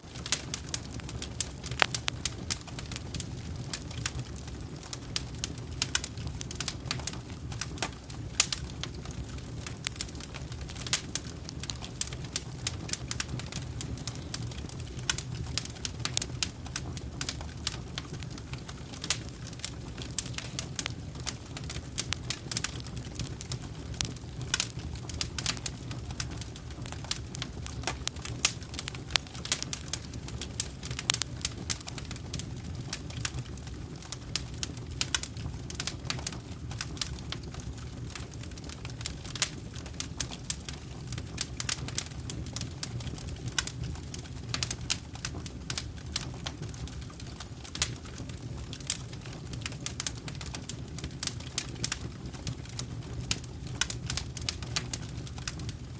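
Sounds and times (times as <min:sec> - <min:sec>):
fire crackling and popping: 0:00.0 - 0:55.9
low rumble of flames: 0:00.0 - 0:55.9.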